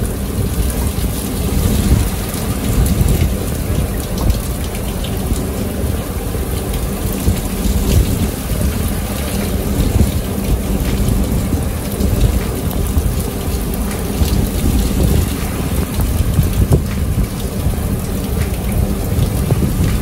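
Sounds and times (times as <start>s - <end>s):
heavy rain on a deck: 0.0s - 20.0s.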